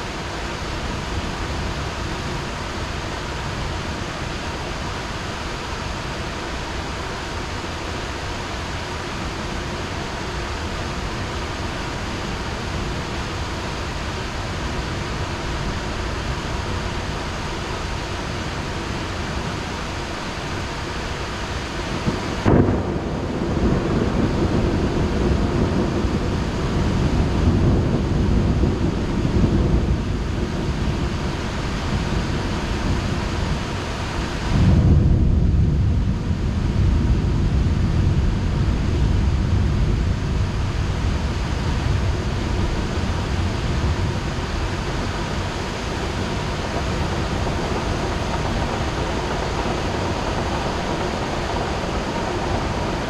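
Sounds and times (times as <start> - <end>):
heavy rain falling: 0.0 - 53.0
thunder crack and rumble: 8.4 - 53.0.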